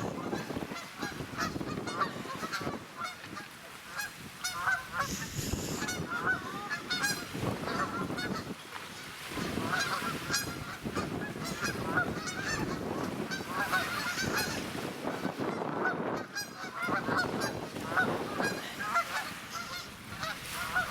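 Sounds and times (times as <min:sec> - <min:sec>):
geese honking: 0:00.0 - 0:20.9.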